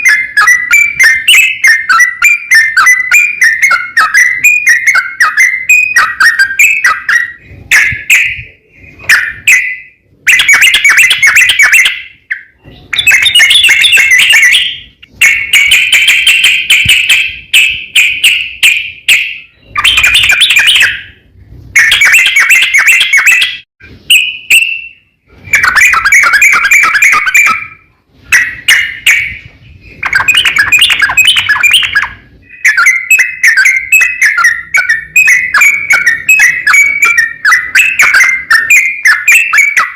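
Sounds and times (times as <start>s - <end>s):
bulbul singing warbled phrases: 0.0s - 21.2s, 25.5s - 39.9s.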